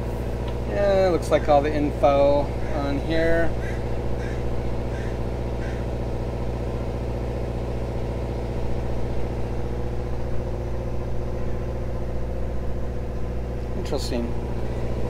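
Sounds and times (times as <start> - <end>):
motor drone: 0.0 - 15.0.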